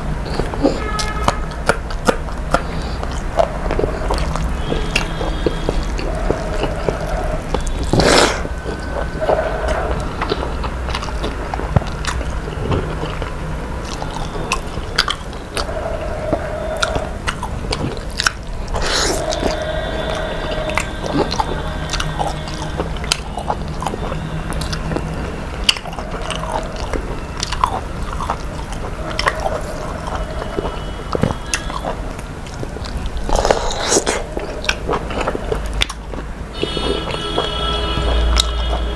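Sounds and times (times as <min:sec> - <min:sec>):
background hum: 0:00.0 - 0:38.9
person chewing food: 0:00.0 - 0:38.9.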